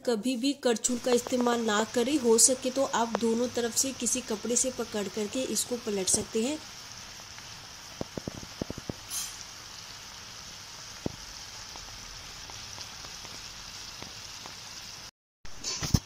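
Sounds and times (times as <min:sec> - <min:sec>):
fish sizzling in oil: 0:00.9 - 0:15.1.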